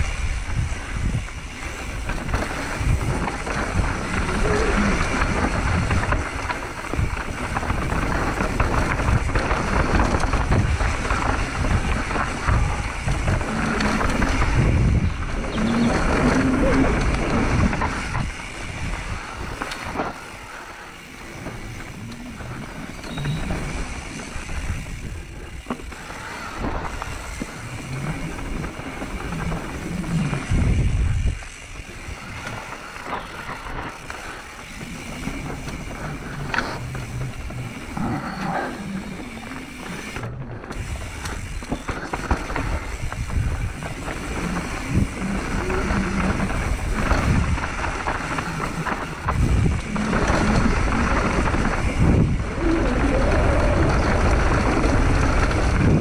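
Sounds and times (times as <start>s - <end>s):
bike knocking and rattling: 0.0s - 56.0s
tyres on rock and gravel: 0.0s - 56.0s.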